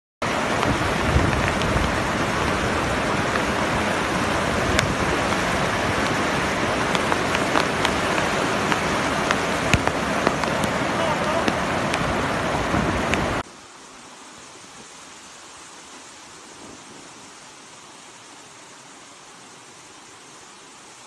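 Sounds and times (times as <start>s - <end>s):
floodwater rushing: 0.2s - 21.0s.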